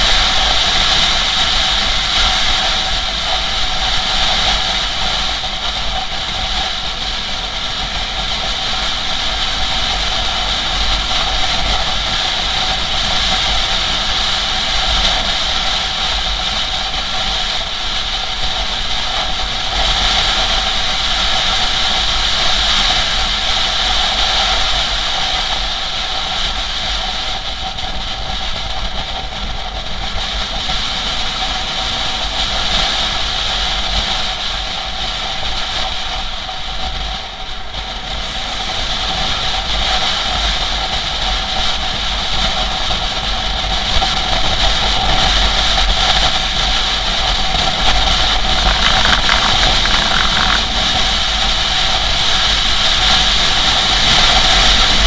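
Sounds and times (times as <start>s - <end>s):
motorcycle engine drone: 0.0s - 55.0s
wind rush on microphone: 0.0s - 55.0s.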